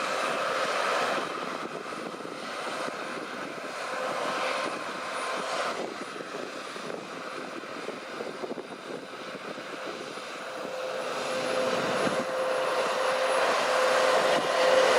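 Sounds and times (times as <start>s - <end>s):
combine harvester drone: 0.0s - 14.9s.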